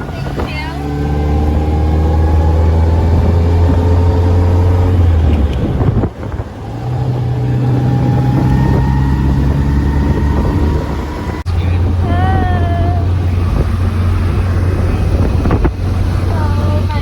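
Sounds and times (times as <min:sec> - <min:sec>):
car engine pulling: 0:00.0 - 0:17.0.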